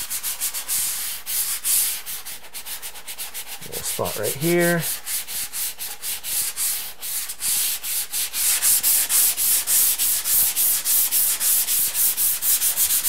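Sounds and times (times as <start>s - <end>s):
sanding sponge scratching: 0.0s - 13.0s.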